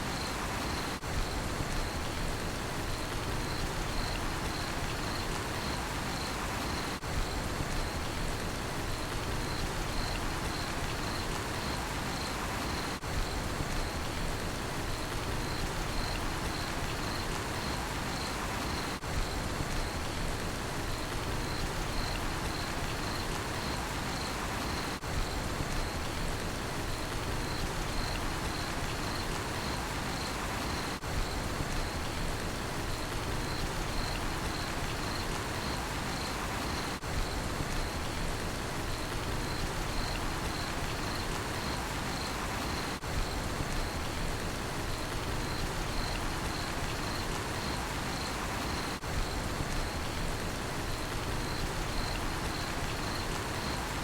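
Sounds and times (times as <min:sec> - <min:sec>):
crickets chirping: 0:00.0 - 0:08.2, 0:08.8 - 0:54.0
steady rain falling: 0:00.0 - 0:54.0.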